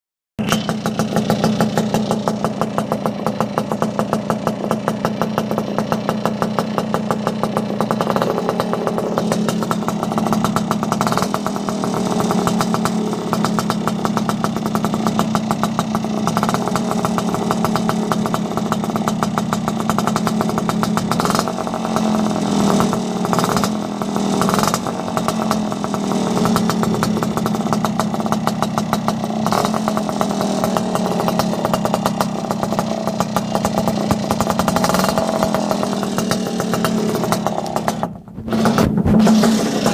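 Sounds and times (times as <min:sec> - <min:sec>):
scooter engine idling and revving: 0:00.4 - 0:39.9.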